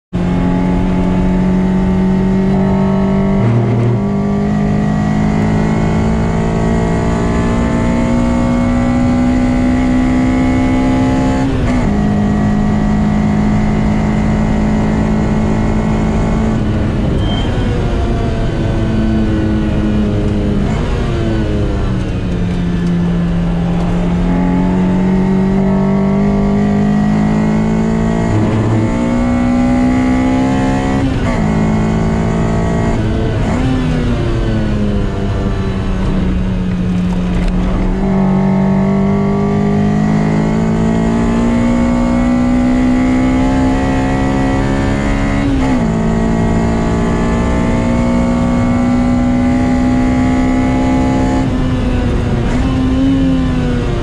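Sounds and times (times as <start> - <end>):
car engine accelerating: 0.1 - 54.0
road and wind noise: 0.1 - 54.0.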